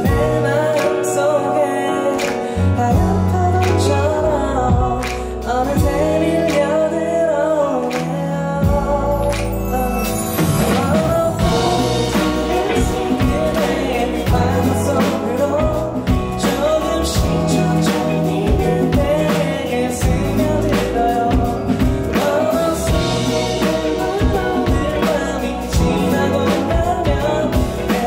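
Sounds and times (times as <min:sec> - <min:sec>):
band with electric guitar: 0:00.0 - 0:28.0
man singing into a microphone: 0:00.0 - 0:28.0.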